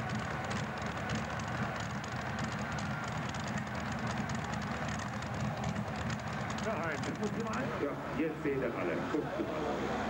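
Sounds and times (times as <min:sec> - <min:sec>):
tractor engine running at low revs: 0:00.0 - 0:08.6.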